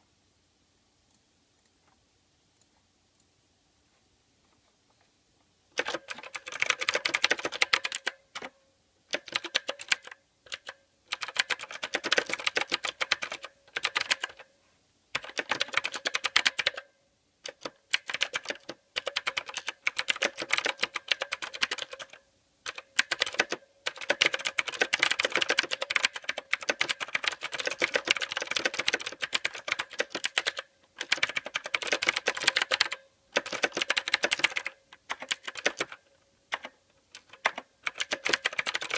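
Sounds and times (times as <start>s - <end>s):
mechanical keyboard key clicks: 5.8s - 8.5s, 9.1s - 14.5s, 15.2s - 38.9s.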